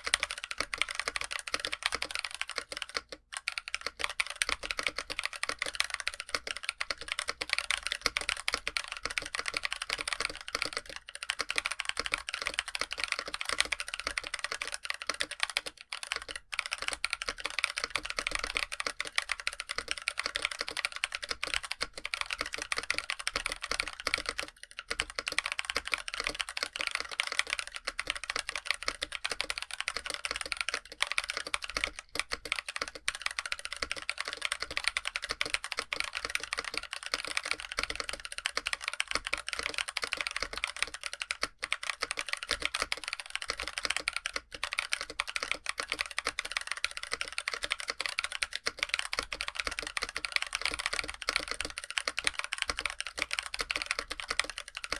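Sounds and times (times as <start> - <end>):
fast mechanical keyboard typing: 0.0 - 54.9.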